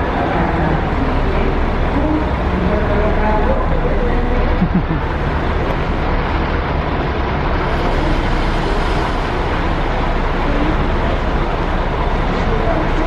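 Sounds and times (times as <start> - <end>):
diesel coach engine rumble: 0.0 - 13.0.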